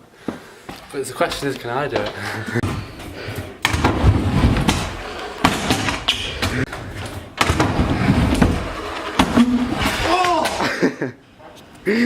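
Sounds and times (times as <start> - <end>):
scooter hitting the ground: 0.7 - 10.8
scooter rolling on concrete: 0.7 - 11.6.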